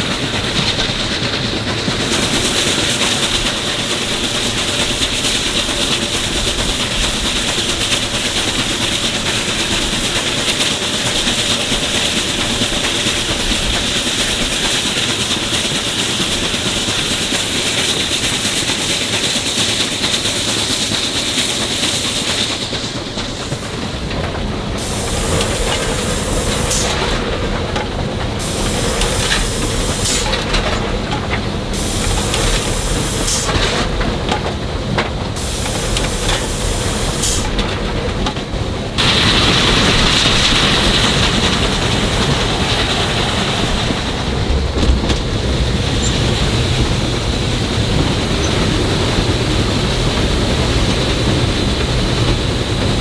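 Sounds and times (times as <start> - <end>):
locomotive running: 0.0 - 53.0
steam locomotive hissing: 0.0 - 53.0.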